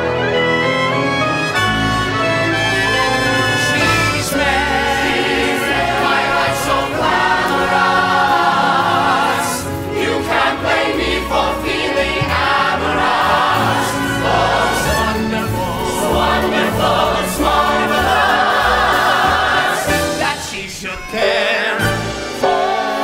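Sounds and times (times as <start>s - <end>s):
orchestra: 0.0s - 23.0s
voices singing with vibrato: 2.6s - 23.0s.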